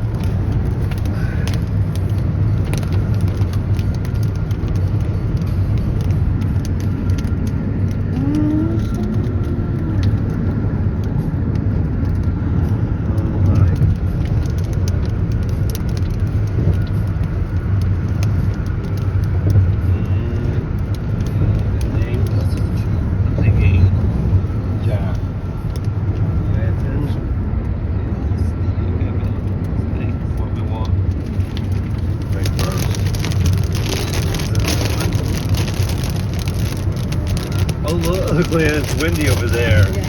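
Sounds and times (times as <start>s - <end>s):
rain ticks: 0.0s - 27.8s, 29.3s - 40.0s
road and engine rumble: 0.0s - 40.0s.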